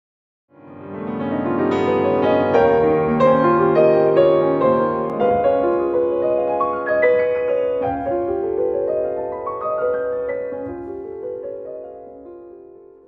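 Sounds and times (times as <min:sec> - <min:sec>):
solo piano arpeggios: 0:00.6 - 0:13.0.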